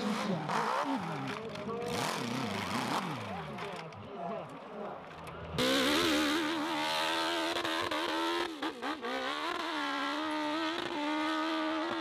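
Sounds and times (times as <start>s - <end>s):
motorcycle engine revving hard: 0.0s - 3.4s, 5.6s - 12.0s.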